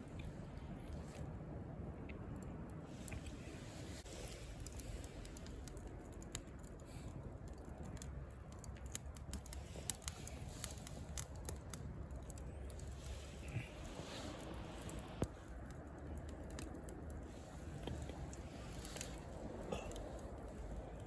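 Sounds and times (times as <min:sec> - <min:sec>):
campfire crackling and popping: 0:00.0 - 0:21.0
low steady rumble: 0:00.0 - 0:21.0.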